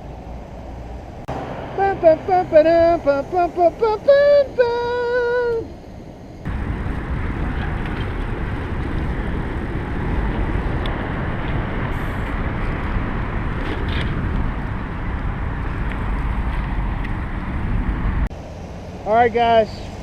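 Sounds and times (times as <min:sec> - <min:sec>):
wind noise on microphone: 0:00.0 - 0:18.3.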